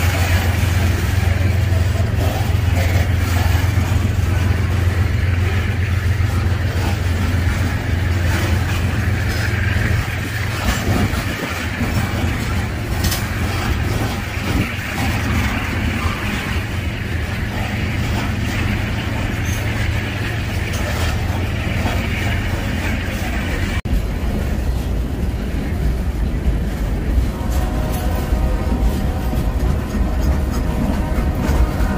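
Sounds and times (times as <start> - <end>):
freight train rumbling: 0.0 - 31.9.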